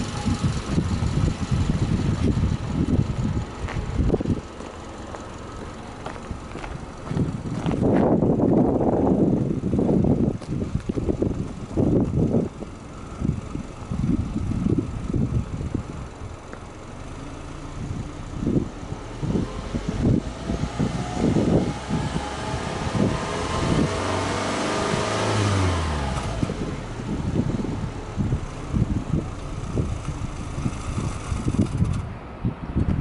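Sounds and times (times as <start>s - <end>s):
car engine idling and revving: 0.0s - 33.0s
wind buffeting microphone: 0.0s - 33.0s.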